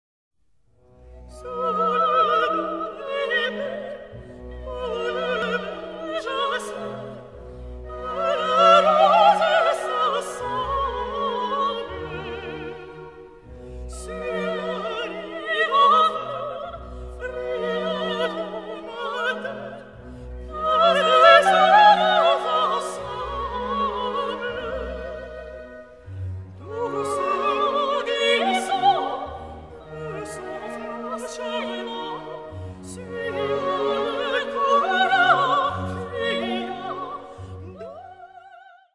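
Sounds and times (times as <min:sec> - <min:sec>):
orchestra playing: 0:00.9 - 0:38.1
operatic singing: 0:01.3 - 0:38.9.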